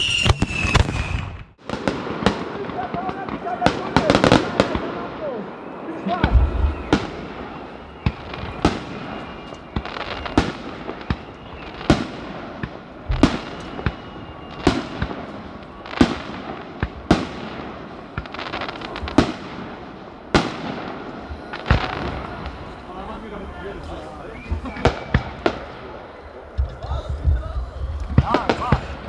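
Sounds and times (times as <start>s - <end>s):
fireworks bangs: 0.0s - 29.0s
fireworks crackling: 0.0s - 29.0s.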